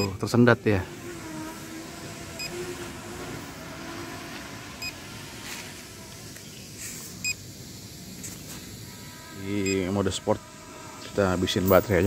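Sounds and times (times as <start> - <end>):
drone motors humming: 0.0 - 12.0.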